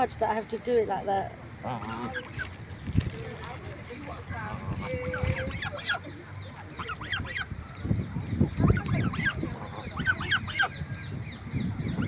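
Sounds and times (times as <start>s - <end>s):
goslings peeping: 0.5s - 3.1s, 4.1s - 12.0s.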